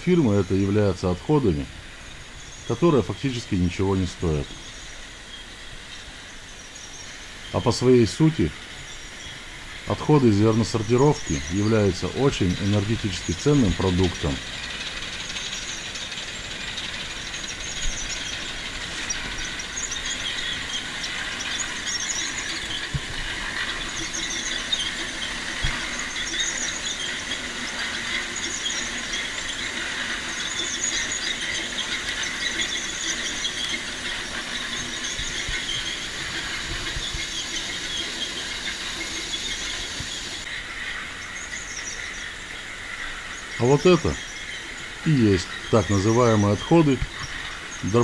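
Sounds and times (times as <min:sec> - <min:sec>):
machine whine and hiss: 0:00.0 - 0:48.0.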